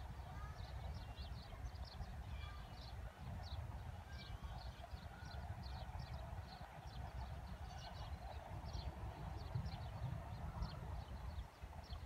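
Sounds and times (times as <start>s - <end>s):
low wind rumble: 0.0s - 12.0s
small birds chirping: 0.2s - 12.0s.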